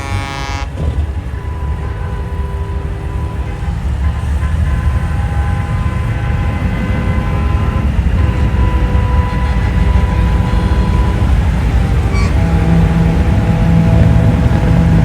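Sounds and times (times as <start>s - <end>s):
faint high steady tones: 0.0s - 15.0s
truck diesel engines rumbling: 0.0s - 15.0s.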